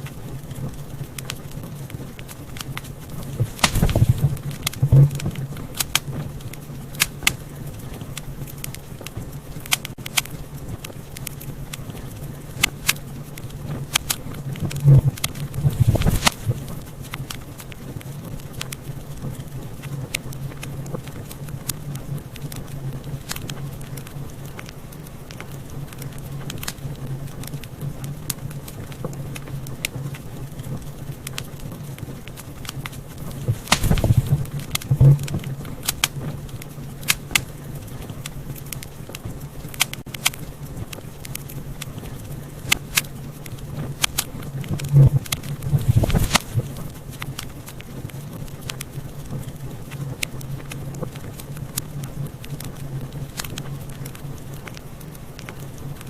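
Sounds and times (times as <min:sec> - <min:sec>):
steady low hum: 0:00.0 - 0:56.0
wood fire crackling and popping: 0:00.0 - 0:56.0.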